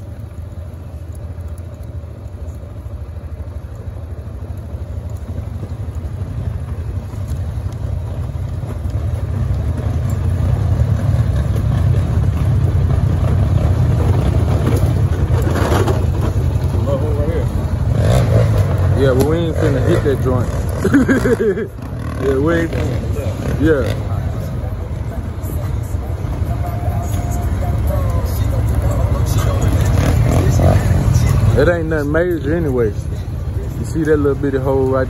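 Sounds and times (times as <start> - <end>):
atv engine running: 0.0 - 35.0
road noise on dirt trail: 0.0 - 35.0.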